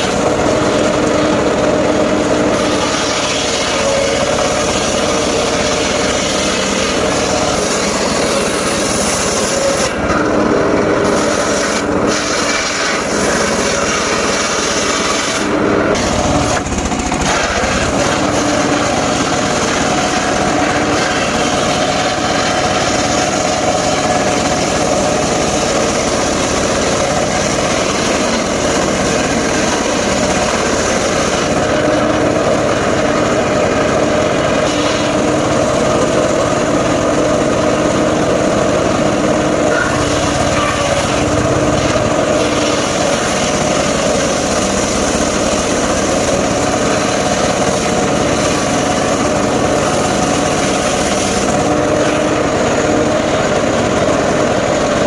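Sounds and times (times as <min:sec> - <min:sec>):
engine-driven circular saw running: 0:00.0 - 0:55.0.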